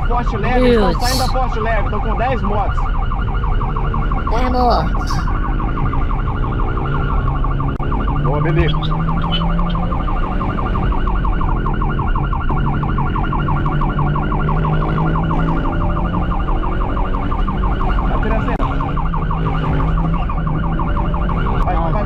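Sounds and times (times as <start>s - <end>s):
police siren warbling: 0.2s - 22.0s.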